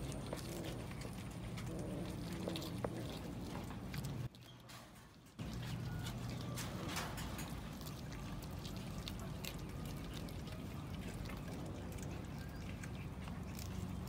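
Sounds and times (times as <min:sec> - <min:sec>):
cats chewing: 0:00.0 - 0:14.0.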